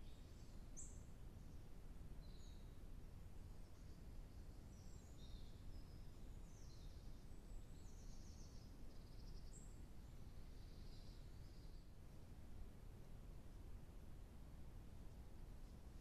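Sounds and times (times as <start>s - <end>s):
songbird chirps and trills: 0.0s - 16.0s.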